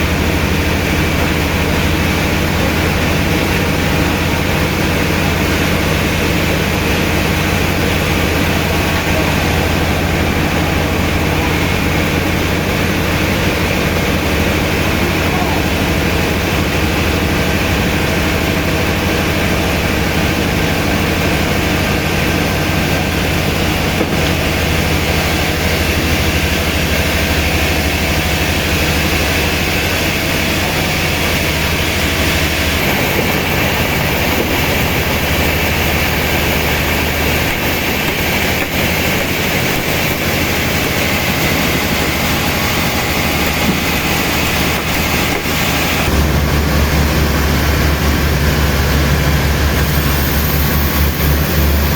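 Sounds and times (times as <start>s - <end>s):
heavy machinery running: 0.0s - 51.9s.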